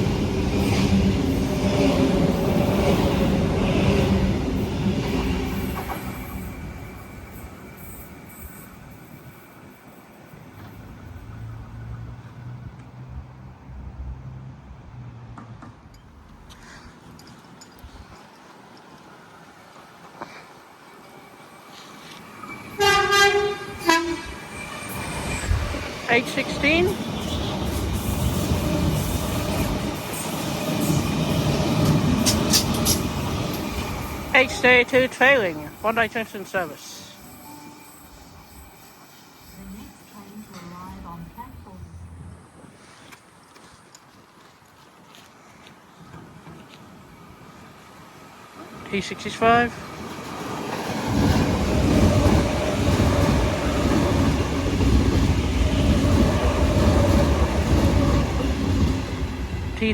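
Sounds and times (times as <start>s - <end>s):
electric train rumbling past: 0.0s - 42.9s, 46.0s - 59.9s.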